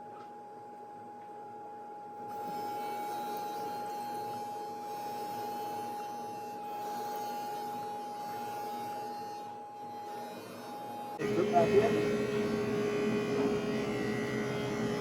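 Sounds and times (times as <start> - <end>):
electric drill whining: 2.3 - 15.0.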